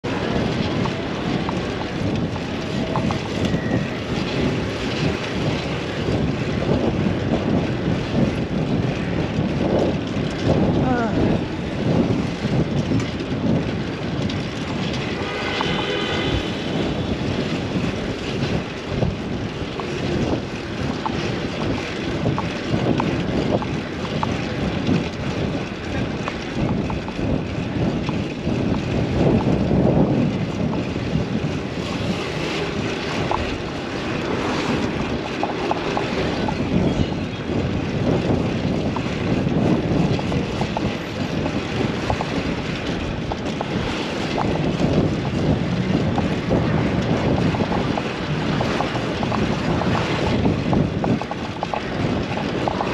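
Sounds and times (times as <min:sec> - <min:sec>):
road and traffic noise: 0:00.0 - 0:52.9
wind buffeting microphone: 0:00.0 - 0:52.9.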